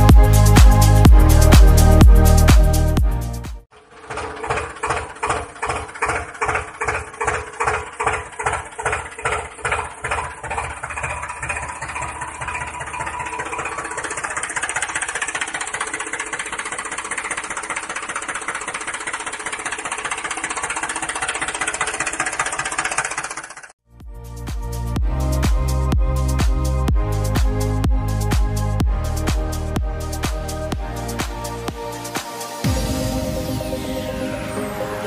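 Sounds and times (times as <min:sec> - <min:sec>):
engine chugging: 0:00.0 - 0:35.0.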